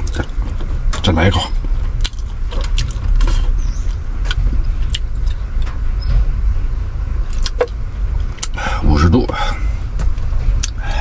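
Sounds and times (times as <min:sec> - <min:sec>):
low rumble inside car cabin: 0:00.0 - 0:11.0.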